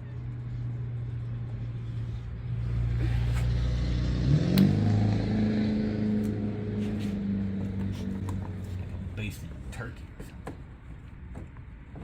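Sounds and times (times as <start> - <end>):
engine running: 0.0 - 10.9.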